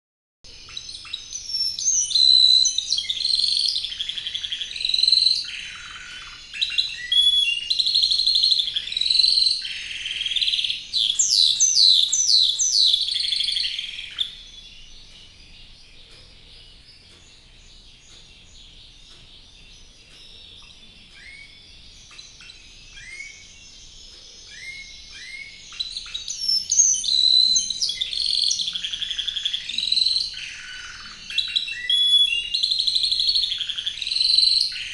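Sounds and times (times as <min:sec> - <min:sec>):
canary singing trills: 0:00.5 - 0:34.9.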